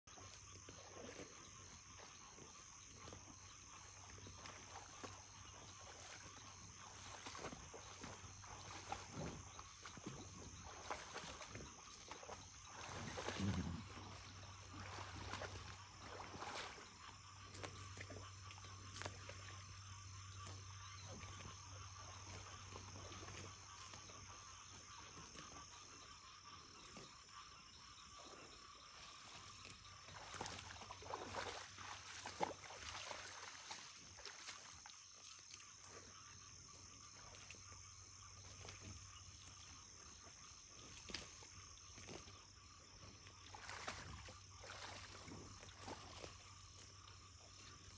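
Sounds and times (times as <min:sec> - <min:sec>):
water splashes: 0:00.0 - 0:25.6, 0:28.2 - 0:47.9
frogs and insects chorus: 0:00.0 - 0:47.9.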